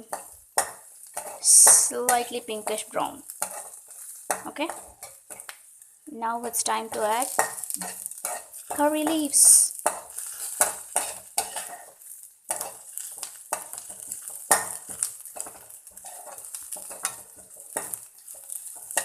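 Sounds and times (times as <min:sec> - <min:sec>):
spatula scraping a pan: 0:00.0 - 0:05.8, 0:06.6 - 0:19.0
onions sizzling in hot oil: 0:00.0 - 0:19.0.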